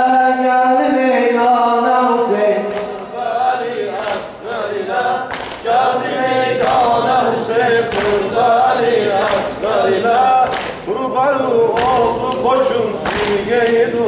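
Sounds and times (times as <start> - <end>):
men singing unaccompanied chant: 0.0 - 14.0.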